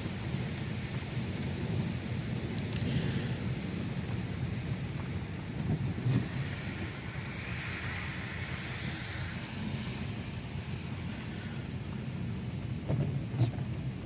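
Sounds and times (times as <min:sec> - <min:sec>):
rain: 0:00.0 - 0:14.0
wind: 0:00.0 - 0:14.0.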